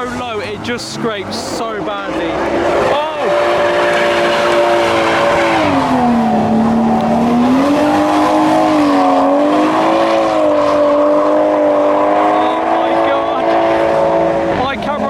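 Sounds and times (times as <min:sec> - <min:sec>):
car engine revving high: 0:00.0 - 0:15.0.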